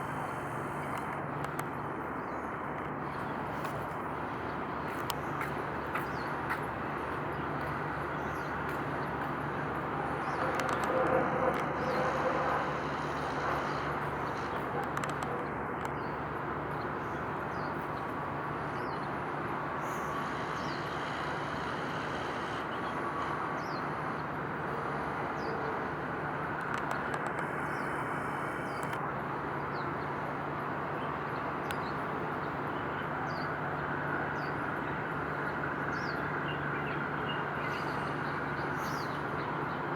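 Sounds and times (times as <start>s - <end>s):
distant traffic rumble: 0.0s - 39.9s.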